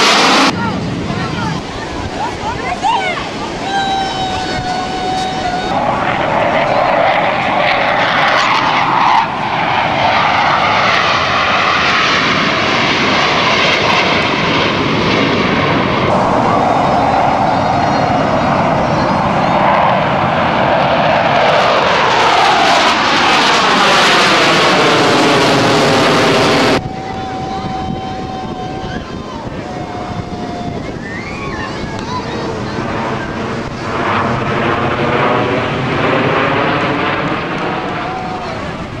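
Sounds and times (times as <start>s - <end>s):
jets roaring overhead: 0.0s - 39.0s.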